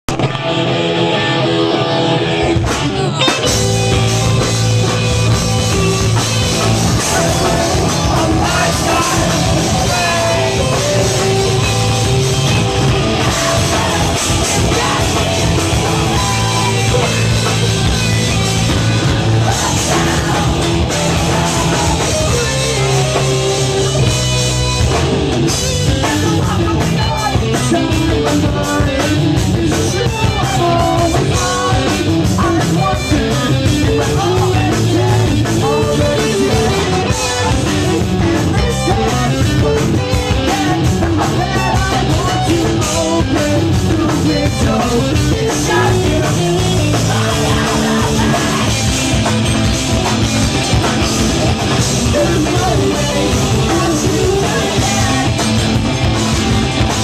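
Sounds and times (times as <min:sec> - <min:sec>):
rock band playing: 0:00.0 - 0:57.0
person singing: 0:01.0 - 0:05.0, 0:05.7 - 0:24.2, 0:25.8 - 0:49.3, 0:51.6 - 0:57.0.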